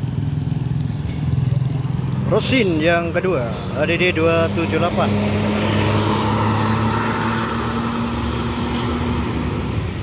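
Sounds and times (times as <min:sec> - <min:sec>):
tyre and road noise: 0:00.0 - 0:10.0.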